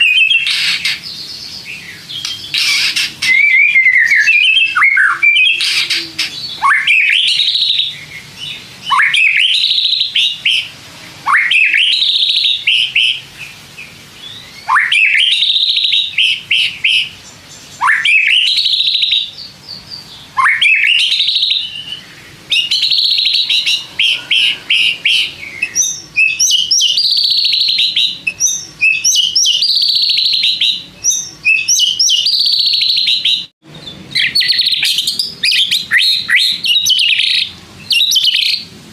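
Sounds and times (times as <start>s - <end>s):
bird singing whistled phrases: 0.0s - 33.5s, 34.1s - 38.7s.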